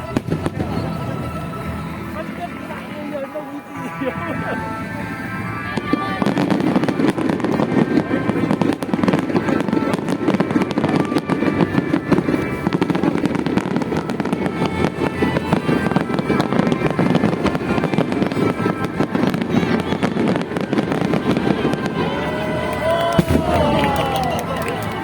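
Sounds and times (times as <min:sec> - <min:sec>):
fireworks bursting and crackling: 0:00.0 - 0:25.0
music playing: 0:00.0 - 0:25.0.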